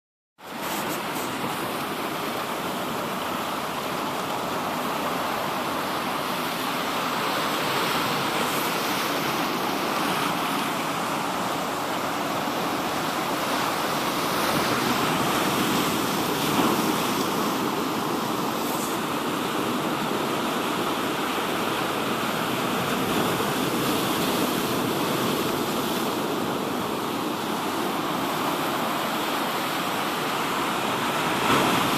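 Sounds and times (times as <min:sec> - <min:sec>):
sea surf washing onto shore: 0:00.4 - 0:31.9.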